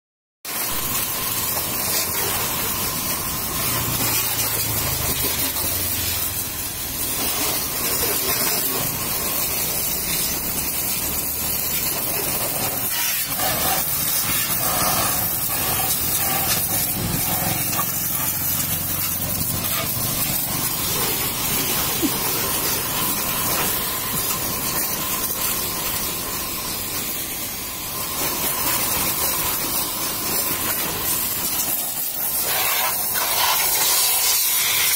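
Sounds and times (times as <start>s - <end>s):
water jet spraying on metal: 0.5s - 34.9s
faint steady whine: 0.6s - 34.3s.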